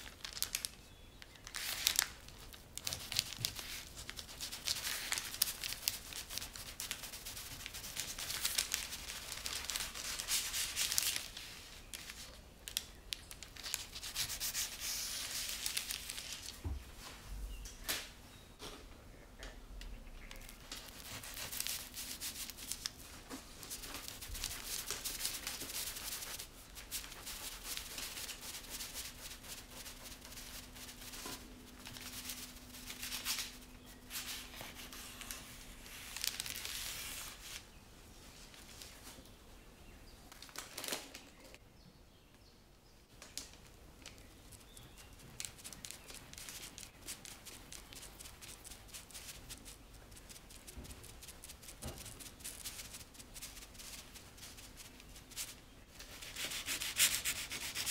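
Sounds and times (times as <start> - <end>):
parchment paper crinkling: 0.0 - 16.7, 20.0 - 39.2, 40.3 - 41.6, 43.1 - 57.9.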